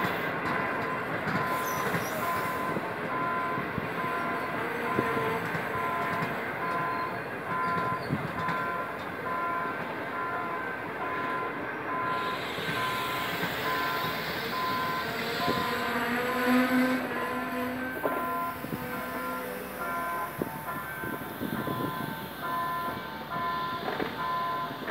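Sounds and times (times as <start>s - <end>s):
train coaches rolling past: 0.0s - 24.9s
electronic warning beep: 0.6s - 24.9s.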